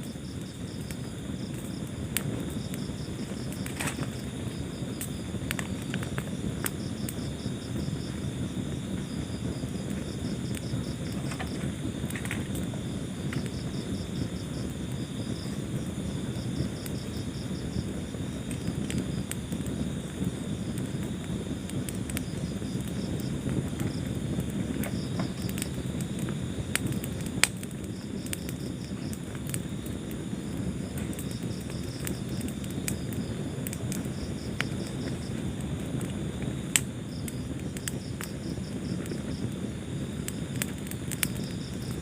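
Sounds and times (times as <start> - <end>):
crickets chirping: 0.0 - 42.0
fire crackles and pops: 0.0 - 42.0
wood fire rumbling: 0.0 - 42.0.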